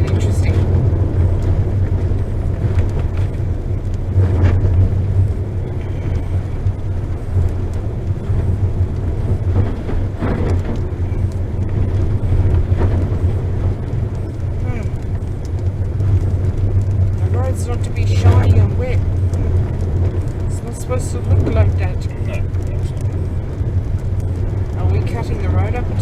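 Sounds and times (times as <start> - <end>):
engine and tyres rumbling: 0.0 - 26.0.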